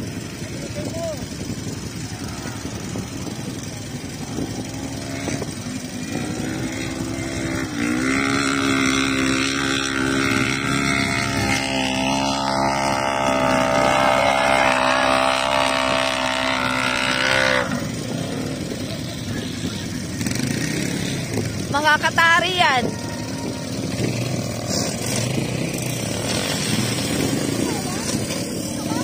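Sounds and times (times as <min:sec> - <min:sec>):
buggy engine revving high: 0:00.0 - 0:29.0
quad engines idling: 0:00.0 - 0:29.0.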